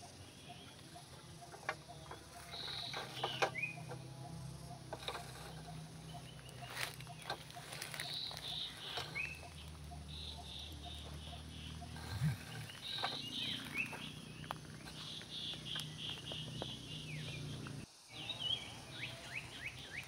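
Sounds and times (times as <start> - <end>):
bird chirps: 0.0 - 20.0.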